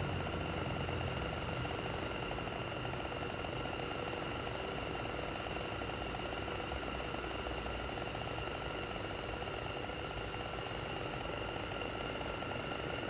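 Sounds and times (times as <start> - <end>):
gas heater burner hissing: 0.0 - 13.0.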